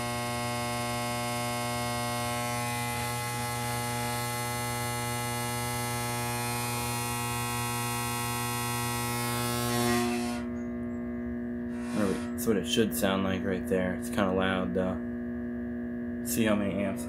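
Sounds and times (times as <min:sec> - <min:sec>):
floodlight humming and buzzing: 0:00.0 - 0:17.0.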